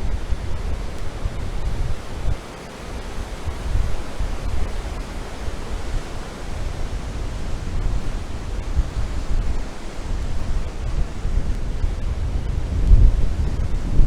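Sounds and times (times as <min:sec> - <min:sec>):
heavy surf breaking on beach: 0:00.0 - 0:14.0
wind buffeting microphone: 0:00.0 - 0:14.0.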